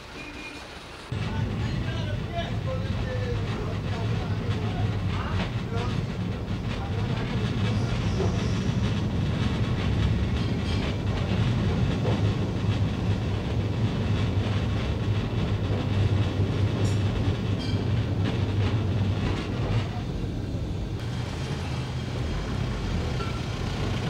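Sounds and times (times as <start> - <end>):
wheels clattering on track: 0.0 - 20.0, 21.0 - 24.0
tram rumbling on rails: 0.0 - 24.0.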